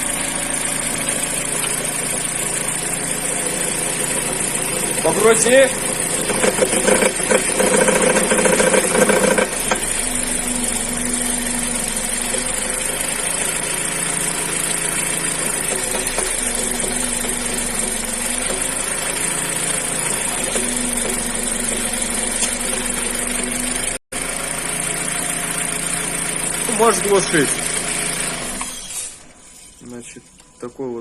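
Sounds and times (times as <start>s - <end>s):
car engine running: 0.0s - 28.3s
engine knocking: 0.0s - 28.4s.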